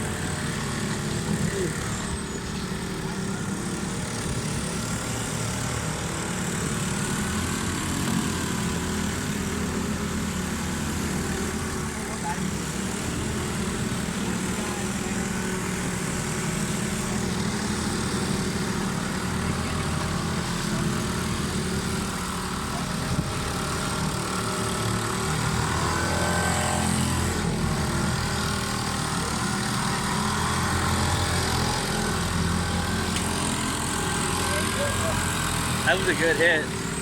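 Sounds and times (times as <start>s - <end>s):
small boat engines running: 0.0s - 37.0s.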